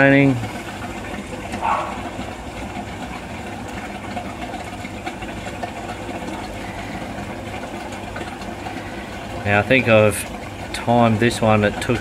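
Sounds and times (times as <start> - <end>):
water rushing down a pipe: 0.0 - 12.0.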